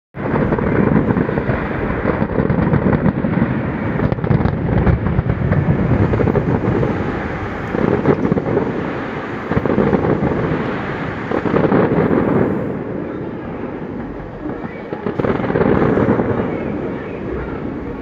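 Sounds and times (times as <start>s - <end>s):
fireworks crackling: 0.2s - 18.0s
fireworks deep bangs: 0.2s - 18.0s.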